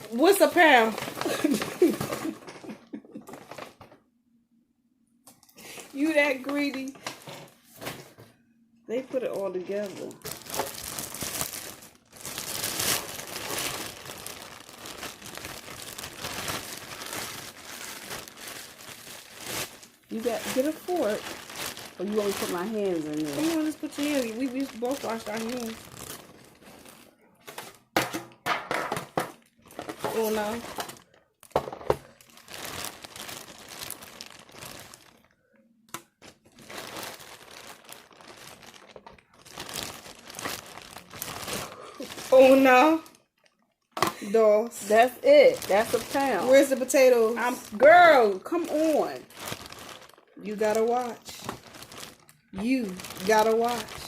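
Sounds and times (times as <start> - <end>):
food wrapping crinkling: 0.0 - 4.0, 5.6 - 8.3, 9.0 - 28.0, 28.9 - 54.0.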